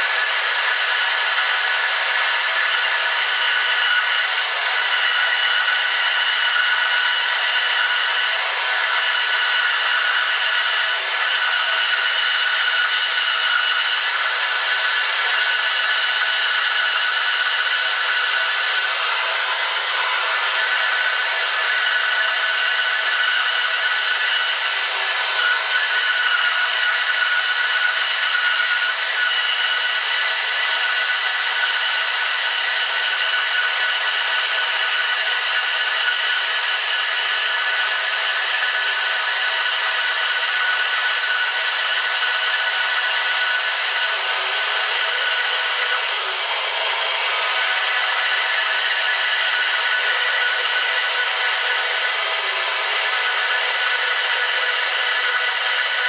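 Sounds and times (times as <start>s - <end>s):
bandsaw cutting wood: 0.0s - 56.0s.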